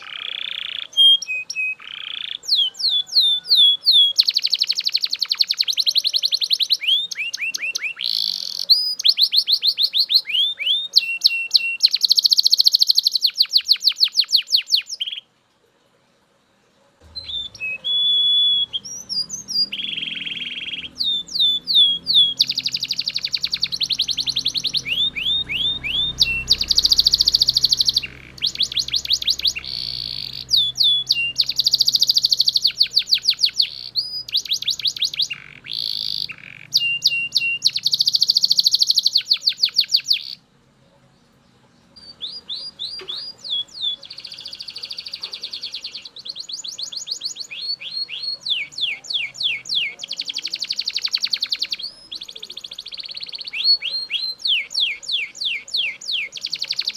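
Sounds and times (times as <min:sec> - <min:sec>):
canary singing trills: 0:00.0 - 0:15.3, 0:17.0 - 0:56.9.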